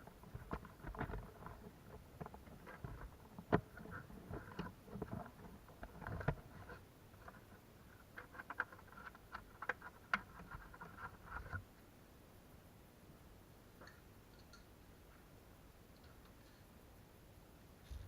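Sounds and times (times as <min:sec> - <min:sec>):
faint clicking and scraping: 0:00.0 - 0:11.9, 0:13.7 - 0:17.0.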